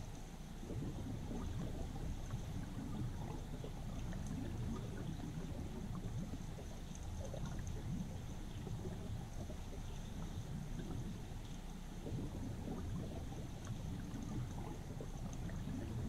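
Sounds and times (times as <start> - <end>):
faint ticks and clicks: 0.0 - 16.0
muffled underwater river rush: 0.0 - 16.0.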